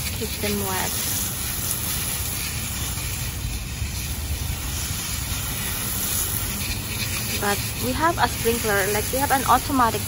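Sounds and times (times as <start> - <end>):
hose spraying water on soil: 0.0 - 10.0
wind rumbling on microphone: 0.0 - 10.0.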